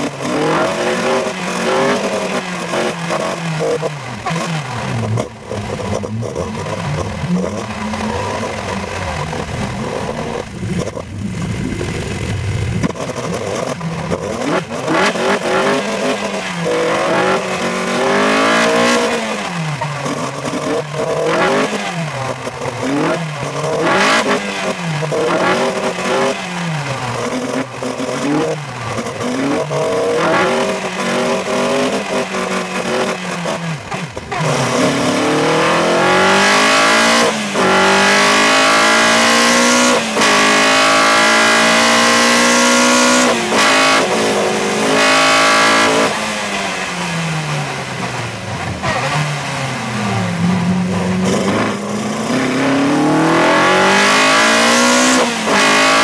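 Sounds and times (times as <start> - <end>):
race car engine: 0.0 - 56.0
road noise: 0.0 - 56.0.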